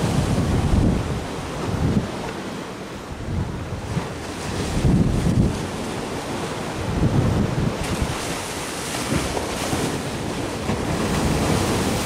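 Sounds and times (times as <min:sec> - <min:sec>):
waves washing against breakwater: 0:00.0 - 0:12.0
wind buffeting microphone: 0:00.0 - 0:12.0.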